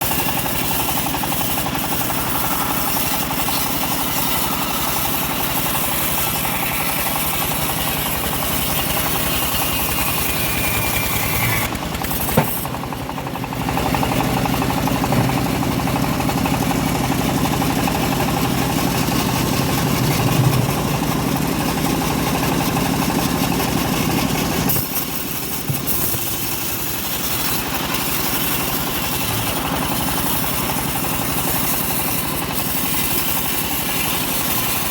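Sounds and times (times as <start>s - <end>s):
bandsaw mill sawing log: 0.0s - 34.9s.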